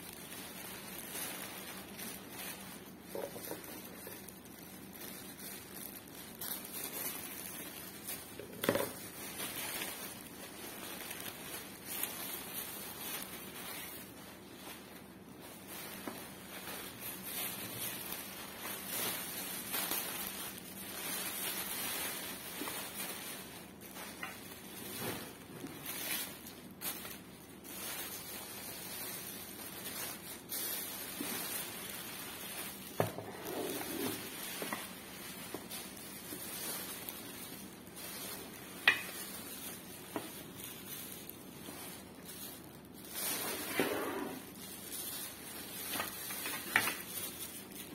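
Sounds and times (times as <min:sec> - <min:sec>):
plastic and bubble wrap crinkling: 0:00.0 - 0:47.9.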